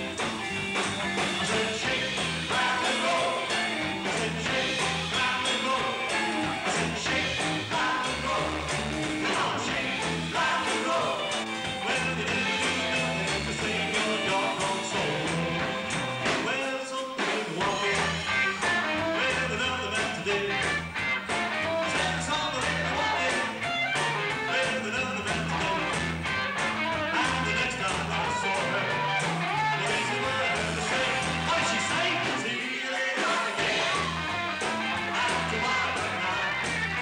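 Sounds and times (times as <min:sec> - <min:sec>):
person singing: 0:00.0 - 0:20.7, 0:21.7 - 0:23.6, 0:24.3 - 0:25.9, 0:27.0 - 0:37.0
rock band playing: 0:00.0 - 0:37.0.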